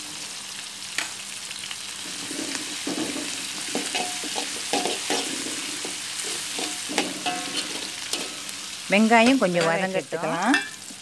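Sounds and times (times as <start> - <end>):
spices sizzling in hot oil: 0.0 - 11.0
spatula scraping pan: 2.0 - 11.0.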